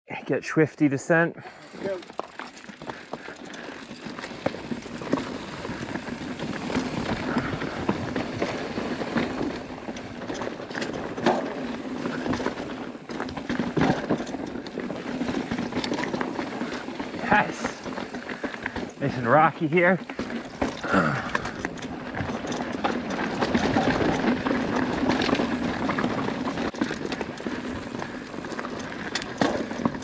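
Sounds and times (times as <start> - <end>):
bike rattling over rocks: 1.7 - 30.0
bike tyres crunching over stone: 1.9 - 30.0.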